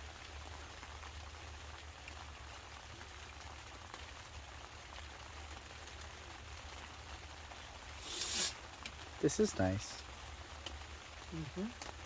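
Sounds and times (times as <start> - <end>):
raindrops tapping on fabric: 0.0 - 12.0
soft steady rain hiss: 0.0 - 12.0.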